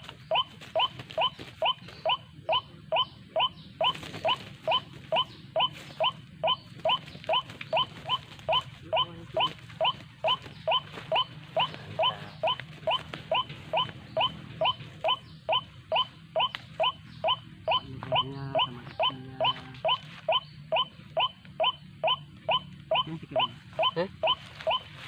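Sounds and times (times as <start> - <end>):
bird call with rising notes: 0.0 - 25.0
low steady hum: 0.0 - 25.0.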